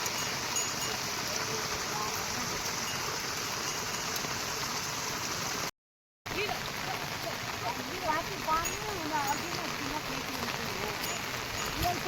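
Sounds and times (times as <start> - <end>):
heavy rain falling: 0.0 - 5.7, 6.3 - 12.0.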